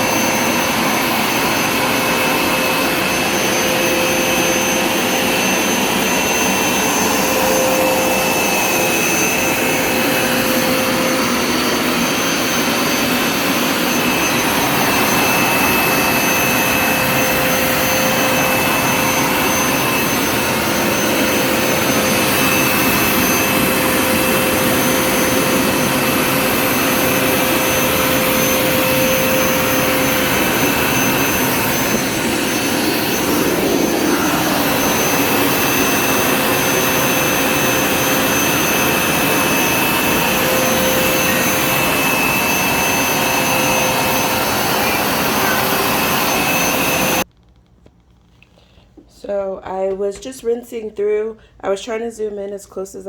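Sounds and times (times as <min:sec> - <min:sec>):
carpet cleaner motor whining: 0:00.0 - 0:47.3.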